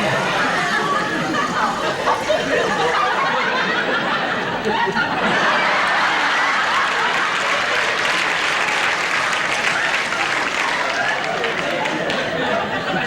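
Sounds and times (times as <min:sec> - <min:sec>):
audience applause: 0:00.0 - 0:04.6, 0:05.2 - 0:13.0
audience laughing: 0:00.0 - 0:13.0.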